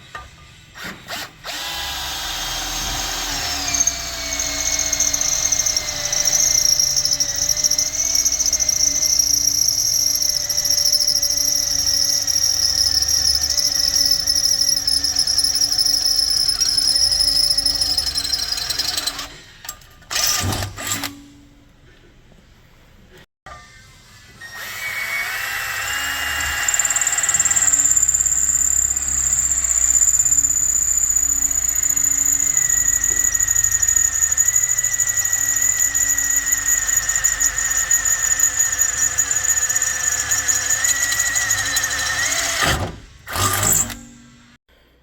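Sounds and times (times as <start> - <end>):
power drill boring into steel: 0.8 - 19.5, 24.4 - 44.1.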